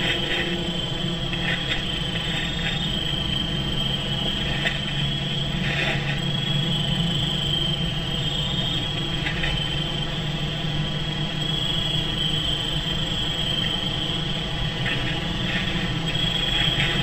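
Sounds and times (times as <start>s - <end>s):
high-pitched whine: 0.0s - 17.0s
low hum: 0.0s - 17.0s.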